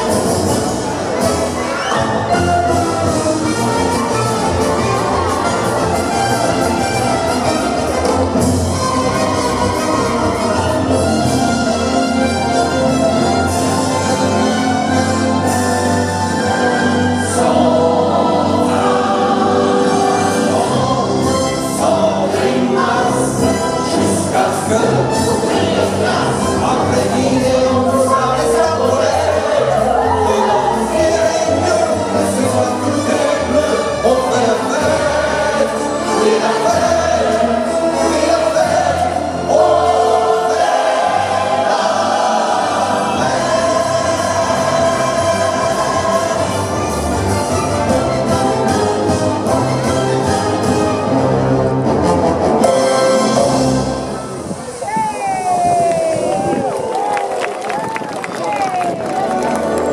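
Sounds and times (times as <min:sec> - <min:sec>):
orchestral music with choir: 0:00.0 - 0:54.8.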